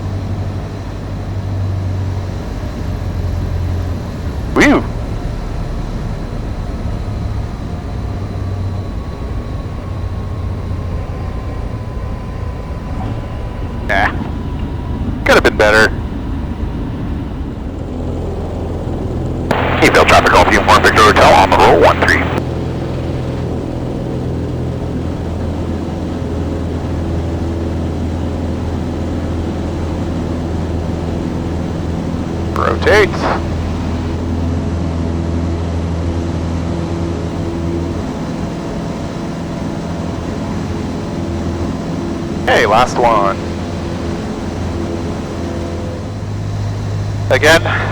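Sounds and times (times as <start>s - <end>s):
airplane engine drone: 0.0s - 47.9s.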